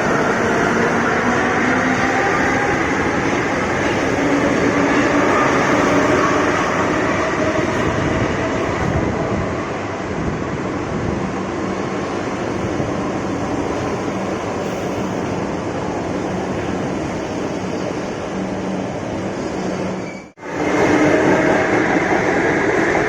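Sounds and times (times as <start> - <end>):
train rushing noise: 0.0 - 23.0.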